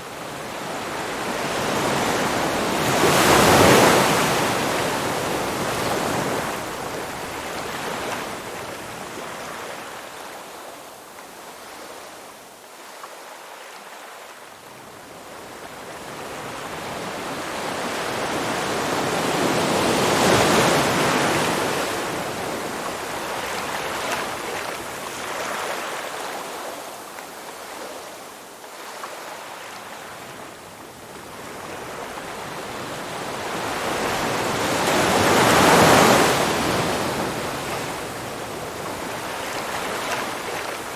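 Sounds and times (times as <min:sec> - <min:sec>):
waves washing onto shore: 0:00.0 - 0:40.9.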